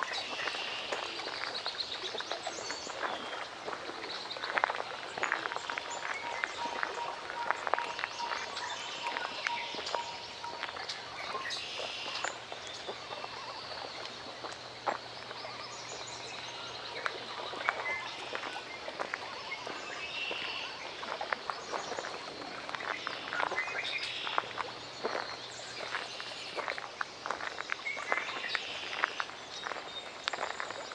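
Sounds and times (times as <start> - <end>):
birds chirping: 0.0 - 30.9
steady outdoor hiss: 0.0 - 30.9
water lapping at shore: 0.0 - 30.9.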